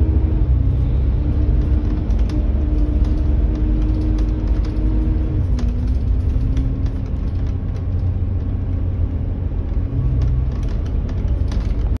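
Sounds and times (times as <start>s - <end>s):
bus diesel engine rumbling: 0.0s - 12.0s
bodywork rattling and clicking: 1.2s - 12.0s.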